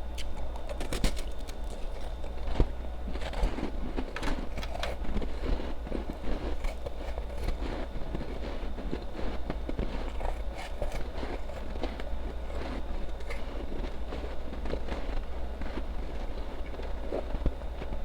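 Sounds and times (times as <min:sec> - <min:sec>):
chewing crunchy ice: 0:00.0 - 0:18.0.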